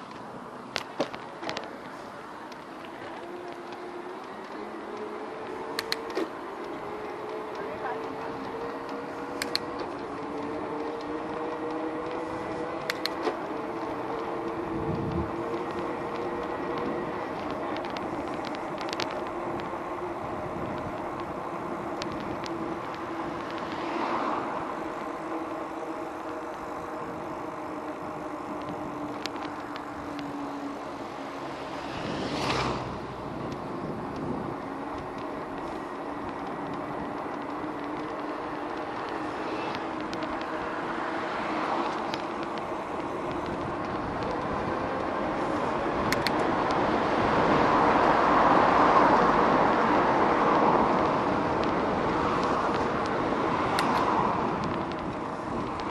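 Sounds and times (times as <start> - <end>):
road riding noise: 0.0 - 55.9
motor vehicle passing: 1.6 - 55.9.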